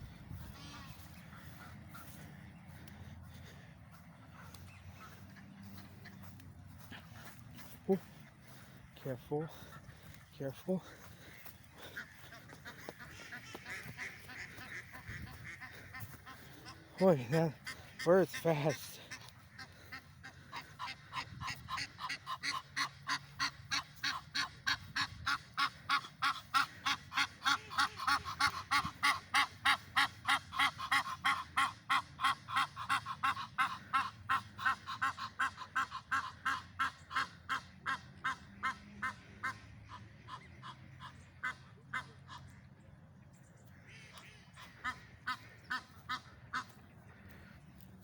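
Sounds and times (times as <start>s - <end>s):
bird honking: 0.0s - 42.6s, 43.7s - 47.8s.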